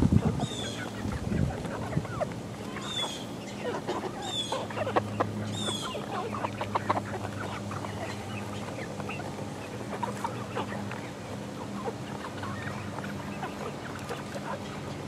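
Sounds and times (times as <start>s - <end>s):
chickens clucking and peeping: 0.0s - 15.0s.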